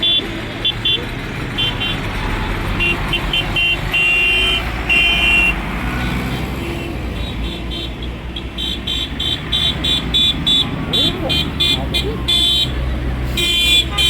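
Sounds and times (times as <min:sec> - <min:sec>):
horns honking: 0:00.0 - 0:14.0
tractor engines running: 0:00.0 - 0:14.0.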